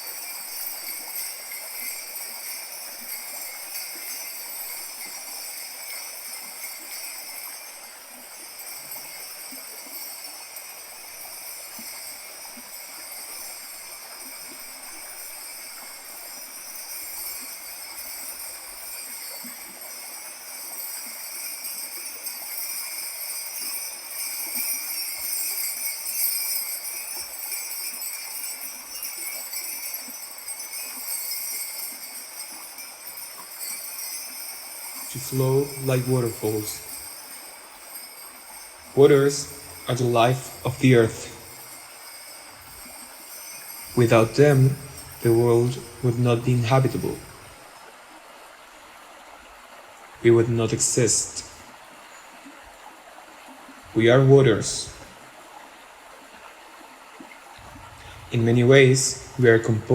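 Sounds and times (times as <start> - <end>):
bronze jingle bells shaking: 0.0 - 47.7, 50.2 - 51.6, 53.9 - 55.2, 57.6 - 59.9.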